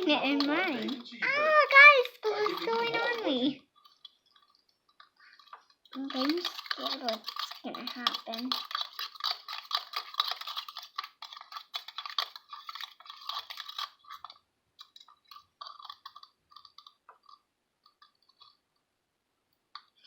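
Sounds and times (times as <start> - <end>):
slime squelching while stirred: 0.0 - 18.9.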